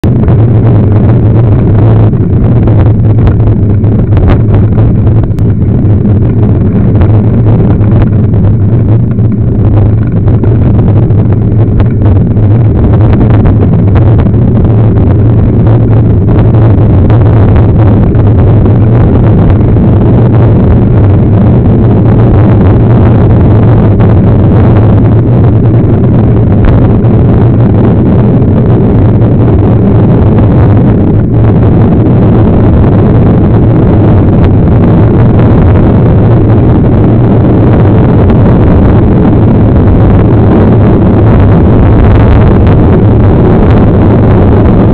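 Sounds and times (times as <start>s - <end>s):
wind roar on microphone: 0.0s - 44.9s.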